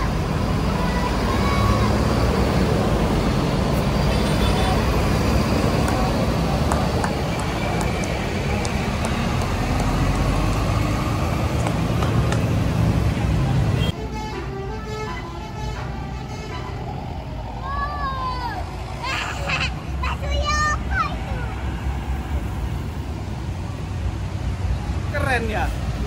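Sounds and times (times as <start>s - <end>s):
heavy vehicle engines rumbling: 0.0s - 26.0s
road traffic: 0.0s - 26.0s.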